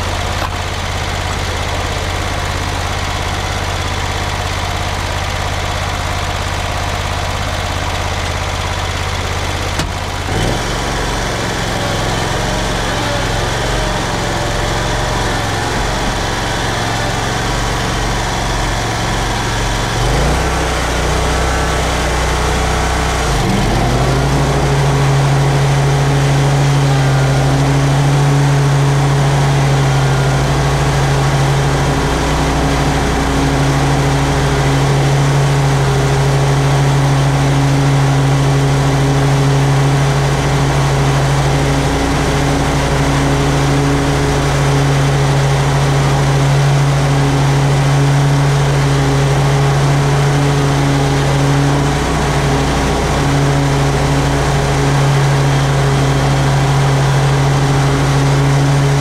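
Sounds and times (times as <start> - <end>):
mower engine running: 0.0 - 59.0.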